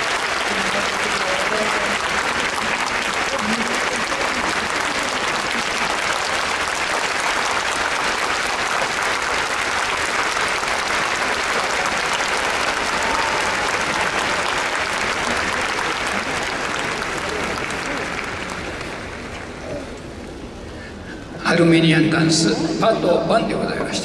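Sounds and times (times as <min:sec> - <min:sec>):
audience applauding: 0:00.0 - 0:20.1.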